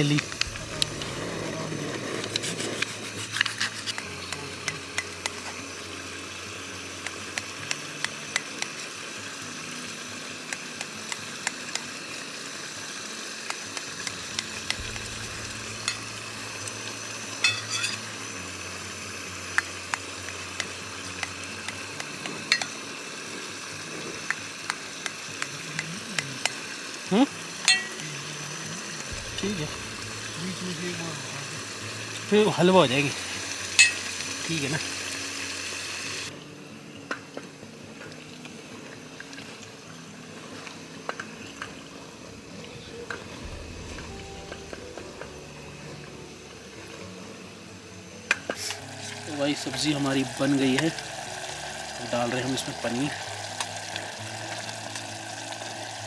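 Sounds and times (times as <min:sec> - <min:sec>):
frying sizzle: 0:00.0 - 0:36.4, 0:37.1 - 0:56.0.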